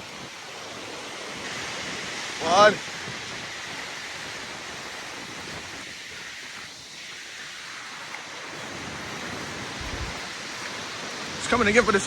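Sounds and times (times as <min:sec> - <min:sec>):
storm wind and rain rushing: 0:00.0 - 0:12.0.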